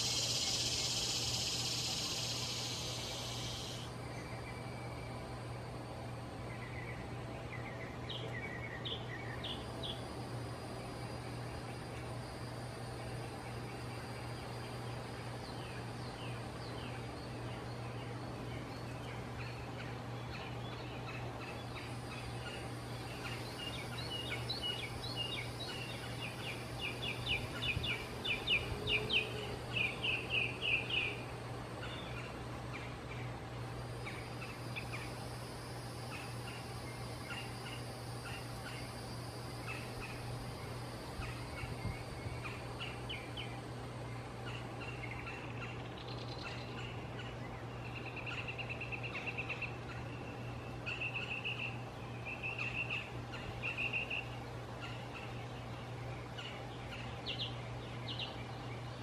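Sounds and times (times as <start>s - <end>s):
birds chattering: 0.0s - 5.0s, 6.4s - 59.0s
low hum: 0.0s - 54.8s.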